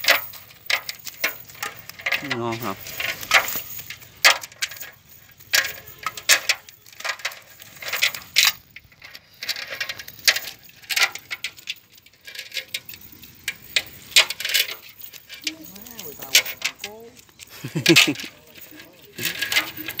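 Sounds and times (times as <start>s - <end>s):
net mesh and weights rattling: 0.0s - 20.0s.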